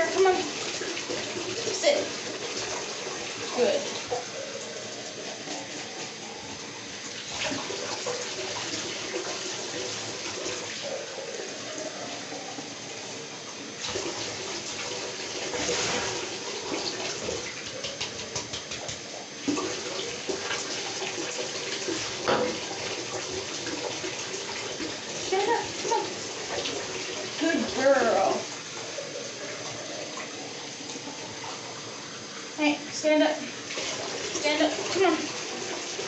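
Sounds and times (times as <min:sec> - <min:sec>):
faucet running into bathtub: 0:00.0 - 0:13.2, 0:13.8 - 0:36.0.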